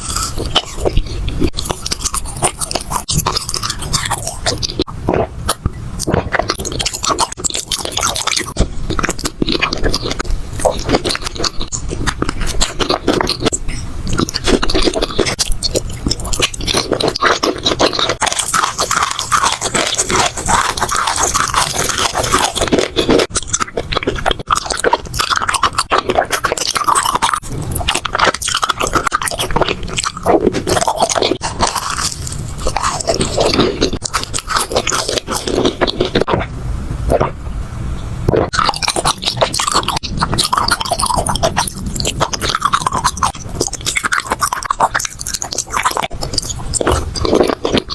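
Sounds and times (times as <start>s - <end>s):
crunchy biting and chewing: 0.0s - 37.4s, 38.2s - 47.9s.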